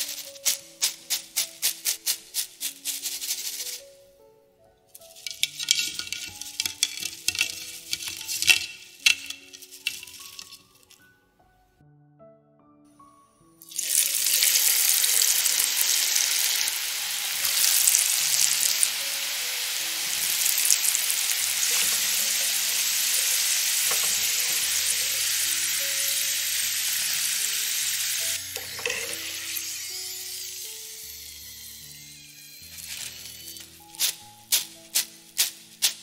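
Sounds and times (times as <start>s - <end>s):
fries sizzling in hot oil: 0.0s - 3.8s, 5.0s - 11.0s, 13.6s - 36.0s.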